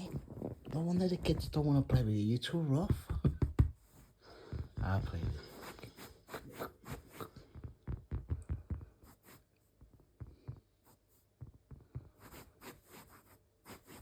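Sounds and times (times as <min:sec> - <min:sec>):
cat play-fighting thumps and rubbing: 0:00.0 - 0:02.2, 0:02.8 - 0:12.8.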